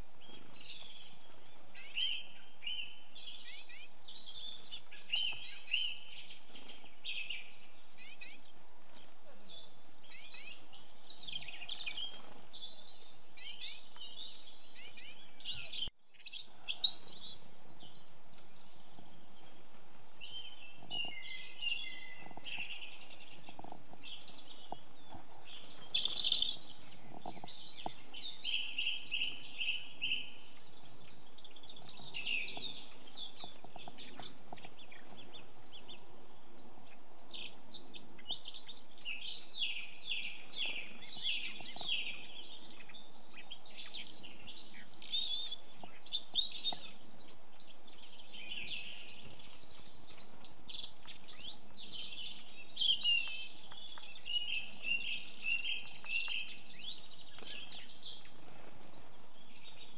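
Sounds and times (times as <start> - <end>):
songbirds singing and calling: 0.0 - 59.9.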